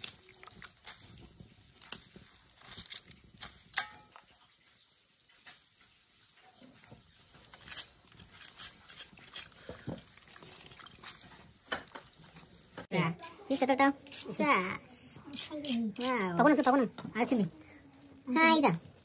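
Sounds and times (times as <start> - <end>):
wet squelching food: 0.0 - 18.3.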